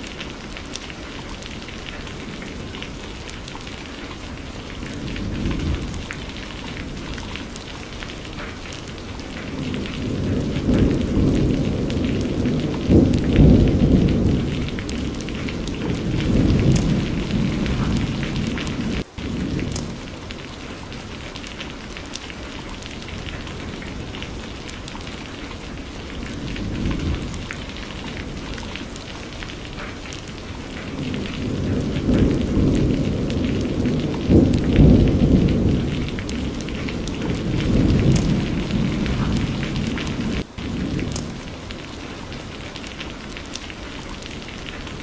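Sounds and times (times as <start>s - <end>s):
steady rain: 0.0s - 45.0s
rolling thunder: 0.9s - 20.5s, 23.0s - 41.8s.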